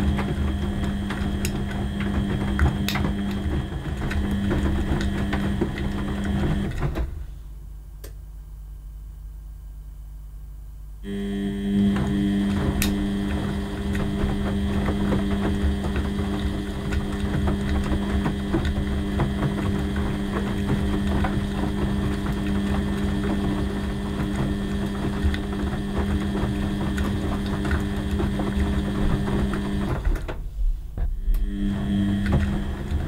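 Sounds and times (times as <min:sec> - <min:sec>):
laundry sloshing and knocking in drum: 0:00.0 - 0:07.4, 0:11.6 - 0:31.2, 0:31.8 - 0:33.0
washing machine motor hum: 0:00.0 - 0:08.7, 0:10.9 - 0:33.0.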